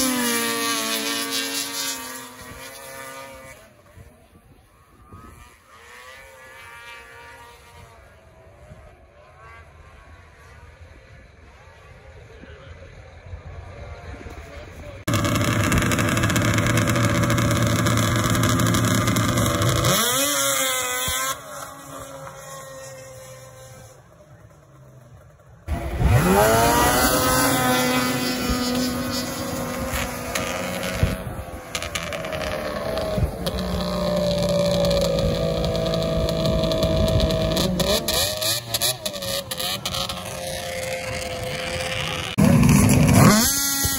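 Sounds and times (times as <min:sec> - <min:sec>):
snowmobile engines revving: 0:00.0 - 0:43.9.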